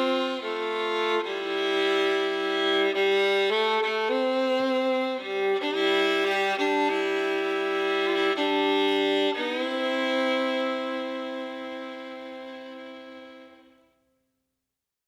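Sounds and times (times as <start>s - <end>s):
slow bowed string melody: 0.0s - 13.9s.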